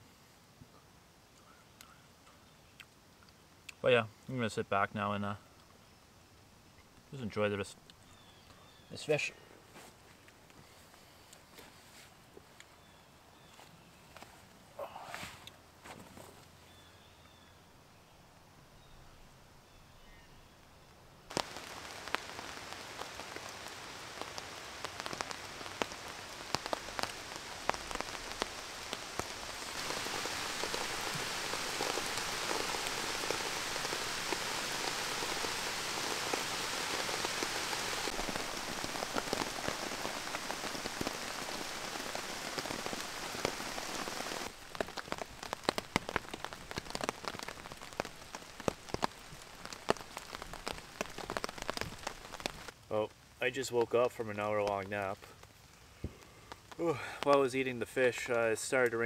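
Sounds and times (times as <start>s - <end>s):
rain falling through foliage: 0.0s - 11.6s, 12.2s - 13.6s, 16.7s - 17.8s, 18.7s - 59.0s.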